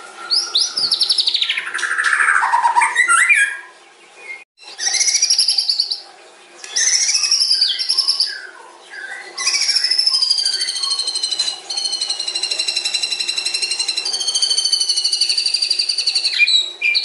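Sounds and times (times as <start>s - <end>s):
bird singing whistled notes: 0.2s - 3.7s, 4.3s - 6.0s, 6.6s - 17.0s.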